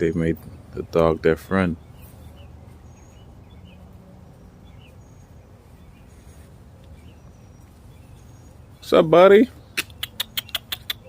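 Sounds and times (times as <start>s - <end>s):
faint bird chirps: 1.7s - 11.0s.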